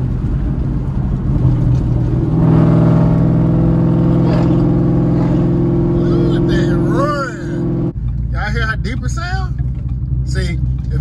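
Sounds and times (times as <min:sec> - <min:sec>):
car engine drone from inside cabin: 0:00.0 - 0:11.0.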